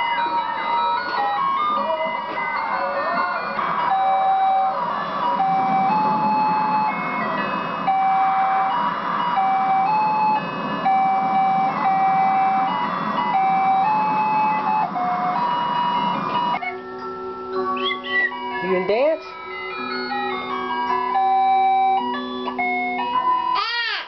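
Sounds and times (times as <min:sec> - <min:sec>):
electronic toy tune: 0:00.0 - 0:24.0.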